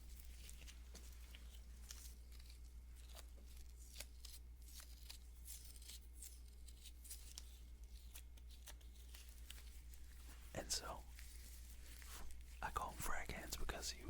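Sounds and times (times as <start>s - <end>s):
gloved hands clicking and rustling: 0.0s - 12.9s.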